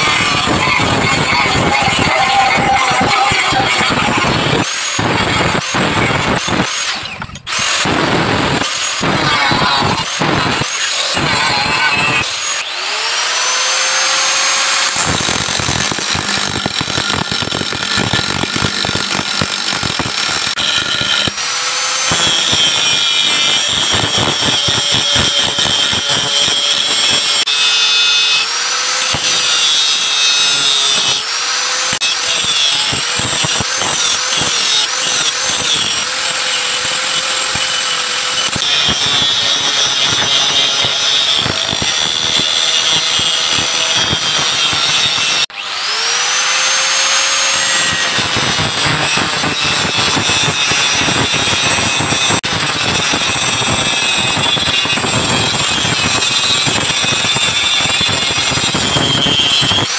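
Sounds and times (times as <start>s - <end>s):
angle grinder grinding steel: 0.0s - 59.9s.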